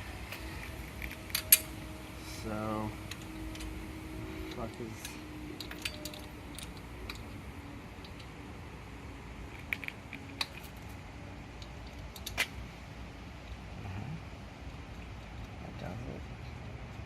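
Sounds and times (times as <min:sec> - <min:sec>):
low steady background hum: 0:00.0 - 0:17.0.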